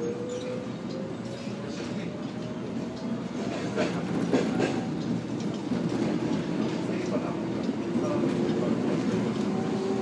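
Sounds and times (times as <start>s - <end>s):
train interior rumble: 0.0s - 10.0s
wheels clacking over rail joints: 1.2s - 10.0s.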